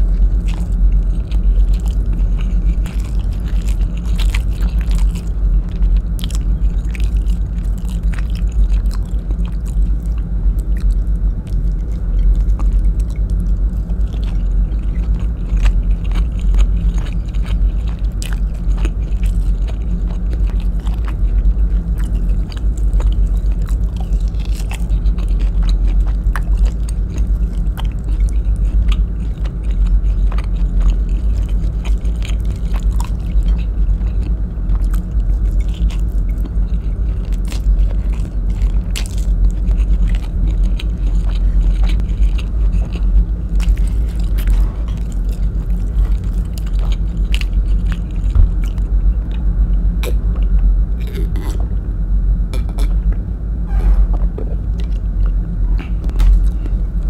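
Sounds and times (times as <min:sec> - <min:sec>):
chewing food: 0:00.0 - 0:51.9, 0:52.5 - 0:57.0
steady low hum: 0:00.0 - 0:57.0.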